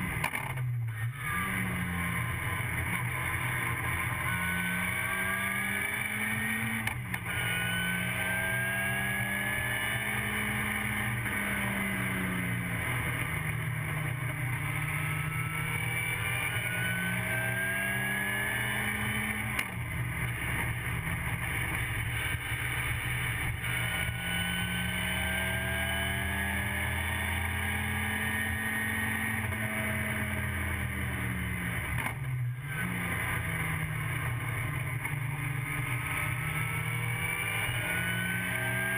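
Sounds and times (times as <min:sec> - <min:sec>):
race car engine at full throttle: 0:00.0 - 0:38.9.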